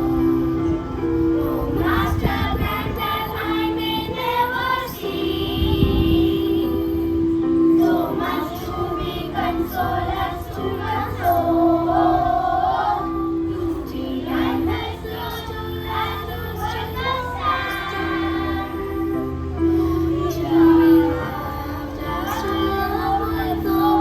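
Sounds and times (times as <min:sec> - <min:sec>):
children singing a hymn: 0:00.0 - 0:24.0.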